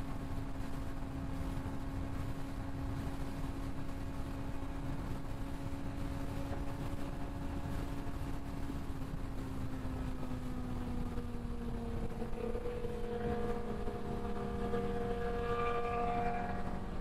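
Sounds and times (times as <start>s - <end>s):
motorcycle engine cruising: 0.0s - 17.0s
wind rumbling on microphone: 0.0s - 17.0s.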